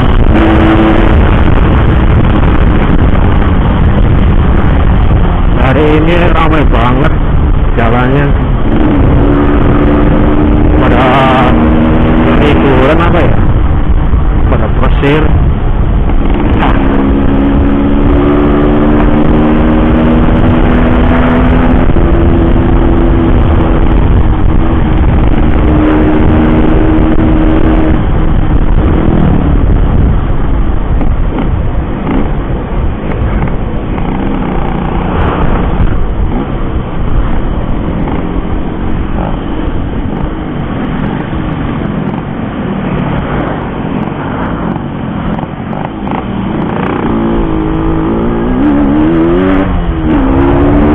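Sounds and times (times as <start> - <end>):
motorcycle engine running: 0.0 - 50.9
riding noise rush: 0.0 - 50.9.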